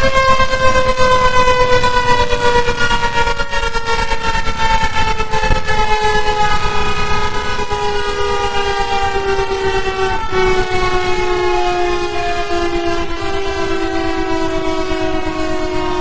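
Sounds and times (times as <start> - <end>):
fire engine siren falling in pitch: 0.0 - 16.0.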